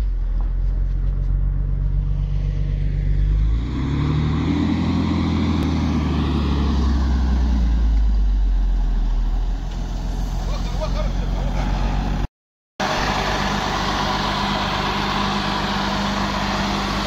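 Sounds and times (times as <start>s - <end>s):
truck engine revving under load: 0.0s - 17.0s.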